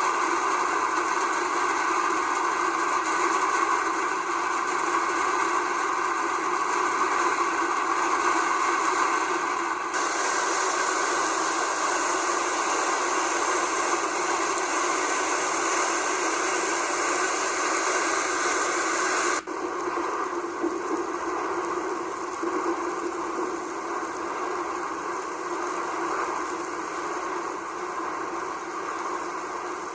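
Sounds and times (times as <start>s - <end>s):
heavy rain hiss: 0.0s - 29.9s.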